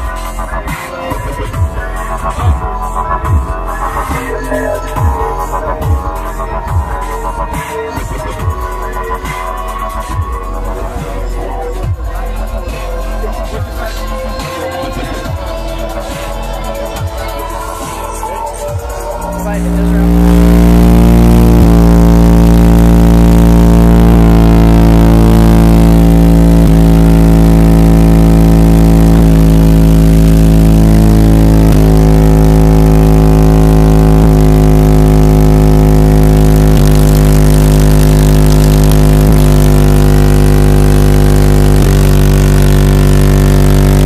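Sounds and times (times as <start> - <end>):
subwoofers playing loud bass: 0.0 - 44.0.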